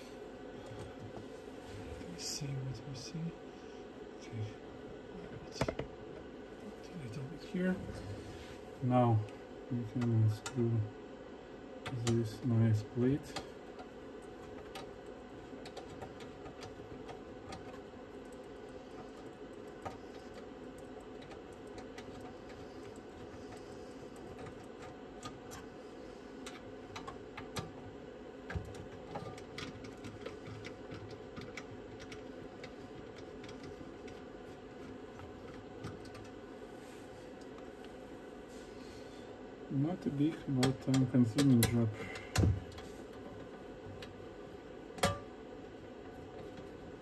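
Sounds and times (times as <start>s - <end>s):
steady low background hum: 0.0s - 47.0s.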